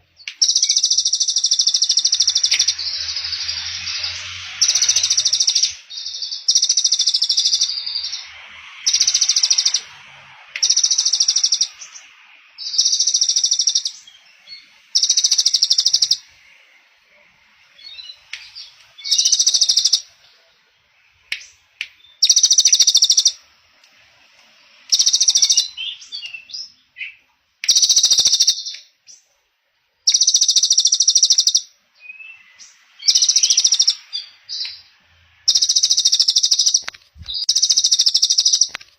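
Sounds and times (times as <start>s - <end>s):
soft bird chirps: 0.0s - 29.4s, 30.0s - 38.9s.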